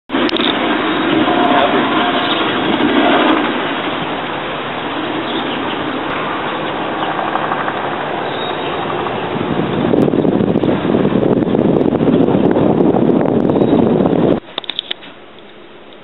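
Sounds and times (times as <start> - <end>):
helicopter flying overhead: 0.1 - 14.7.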